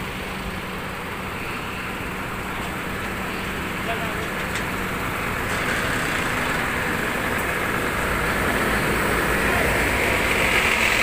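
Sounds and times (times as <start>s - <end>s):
coach engine rumbling: 0.0s - 11.0s.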